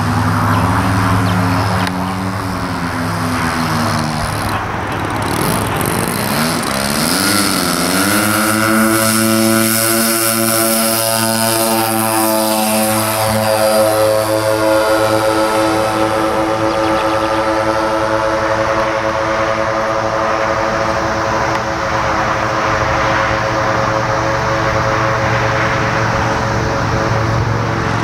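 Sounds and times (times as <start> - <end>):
model airplane engines running: 0.0 - 28.0.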